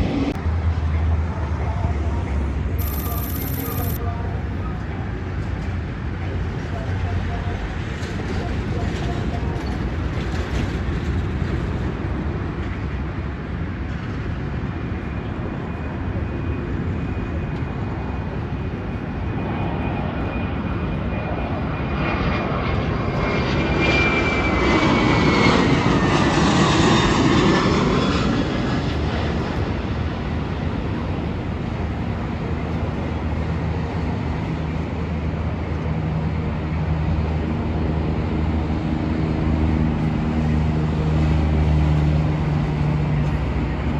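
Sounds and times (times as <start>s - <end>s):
jet airliner passing: 7.8s - 43.9s.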